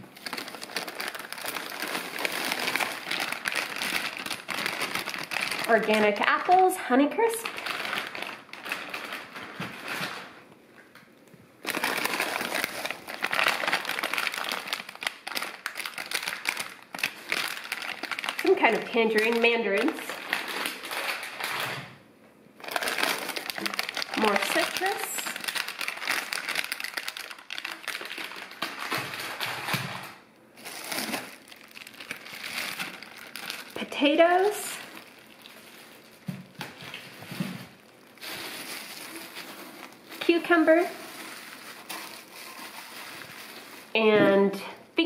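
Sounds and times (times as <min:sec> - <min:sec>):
plastic bag crinkling: 0:00.0 - 0:21.9, 0:22.6 - 0:44.4.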